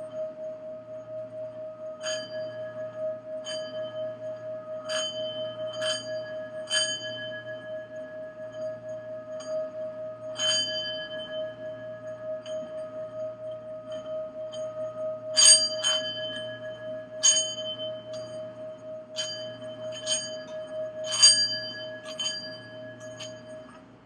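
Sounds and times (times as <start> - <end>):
singing bowl wavering tone: 0.0 - 23.9
bright bell-like strikes: 2.0 - 23.8.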